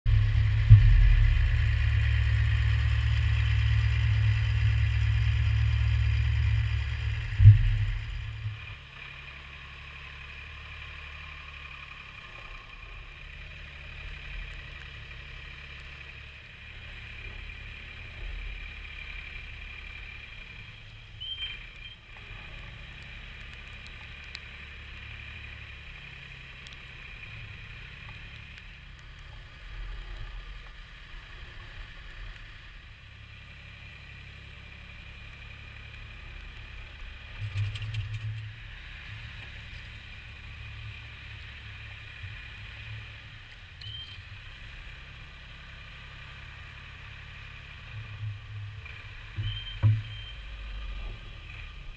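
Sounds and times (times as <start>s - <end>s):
forklift engine rumbling: 0.0s - 51.9s.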